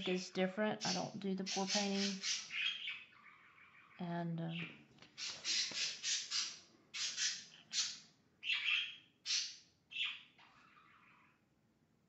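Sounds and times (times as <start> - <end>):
parakeets squawking: 0.8 - 11.4.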